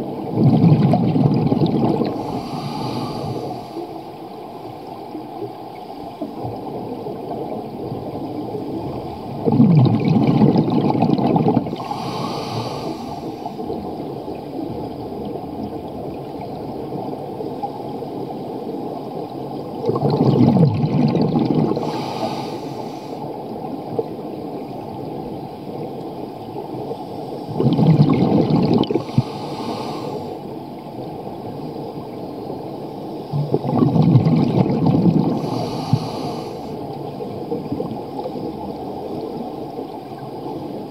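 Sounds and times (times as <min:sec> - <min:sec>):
steady underwater hiss: 0:00.0 - 0:19.8, 0:20.8 - 0:40.9
exhaled bubbles underwater: 0:00.0 - 0:40.9.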